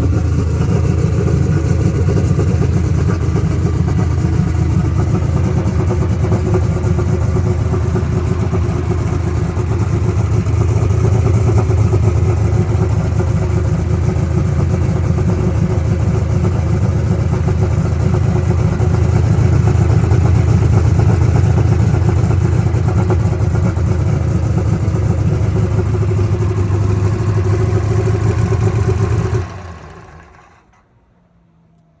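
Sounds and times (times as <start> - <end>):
tractor engine running: 0.0 - 30.8.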